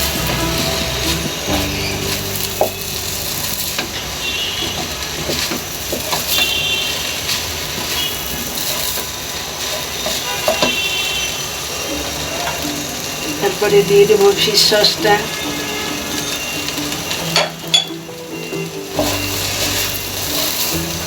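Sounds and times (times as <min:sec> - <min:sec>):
rice sizzling in a hot pan: 0:00.0 - 0:21.0.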